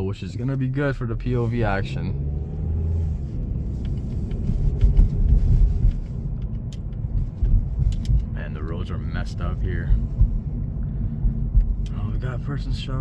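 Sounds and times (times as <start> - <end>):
car engine droning: 0.0 - 13.0
road rumble: 0.0 - 13.0.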